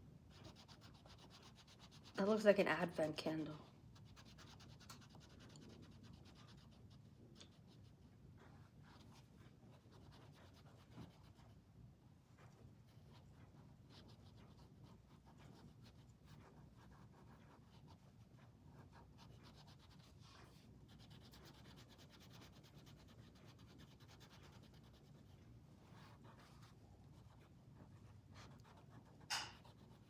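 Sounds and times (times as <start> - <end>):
crayon scratching on paper: 0.3 - 11.6, 12.4 - 30.0.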